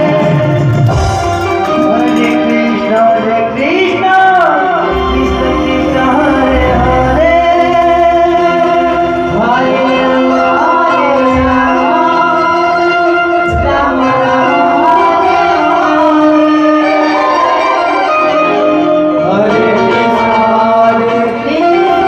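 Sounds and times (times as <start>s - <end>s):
man singing: 0.0s - 17.6s, 18.6s - 22.0s.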